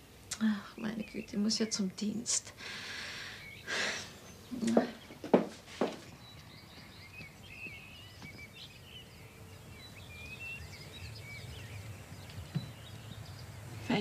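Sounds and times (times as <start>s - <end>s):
faint low outdoor rumble: 0.0s - 14.0s
small birds chirping: 0.0s - 14.0s.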